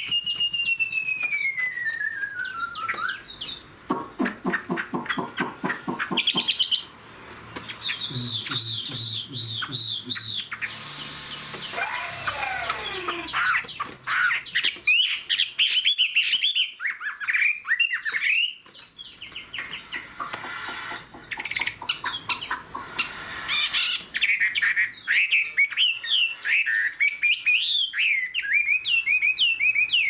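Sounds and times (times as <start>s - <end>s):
bird singing whistled notes: 0.0s - 6.8s, 7.5s - 30.0s.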